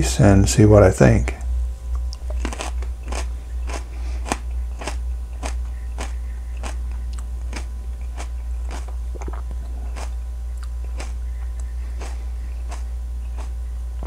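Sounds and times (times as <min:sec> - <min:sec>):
steady low hum: 0:00.0 - 0:14.0
crisp crunches of chewing pepper: 0:01.9 - 0:13.6.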